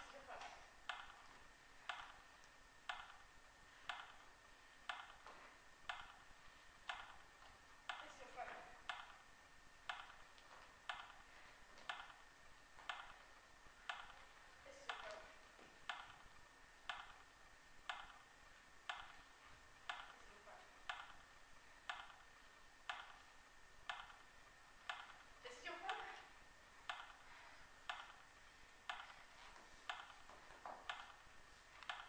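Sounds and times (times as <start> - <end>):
clock ticking with echo: 0.8 - 29.3, 29.9 - 32.0.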